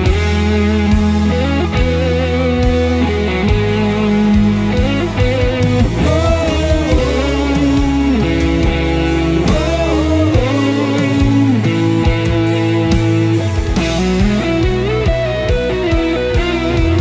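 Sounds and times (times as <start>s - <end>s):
bass guitar: 0.0s - 17.0s
lead guitar melody: 0.0s - 17.0s
steady drum beat: 0.0s - 17.0s.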